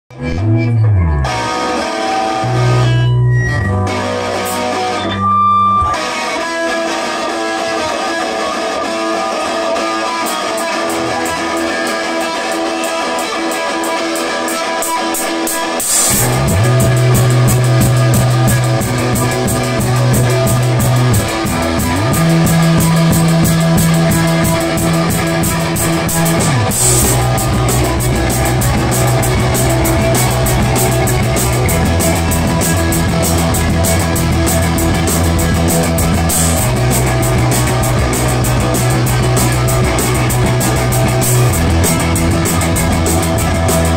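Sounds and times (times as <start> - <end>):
bass guitar sliding: 0.1 - 12.9, 15.9 - 43.9
drums: 0.1 - 43.9
electric guitar playing: 0.1 - 43.9.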